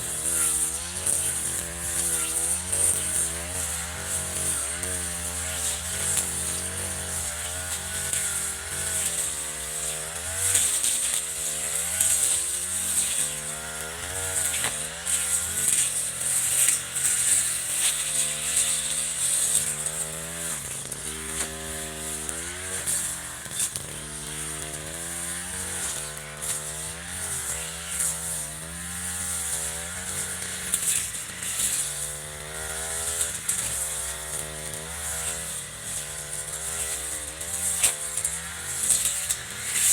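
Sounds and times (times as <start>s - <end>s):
brush cutter engine revving: 0.0s - 39.9s.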